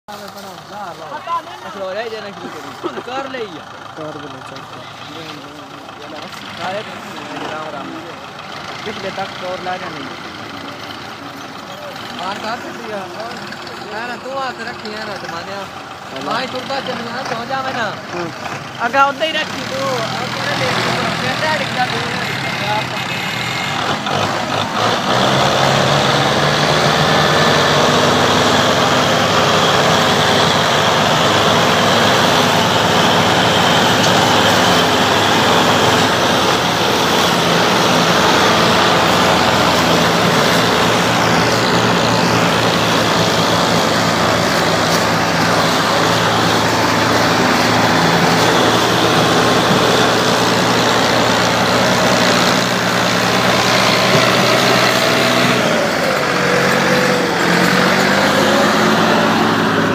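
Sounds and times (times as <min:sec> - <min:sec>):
tractor engine running: 0:00.1 - 0:59.9.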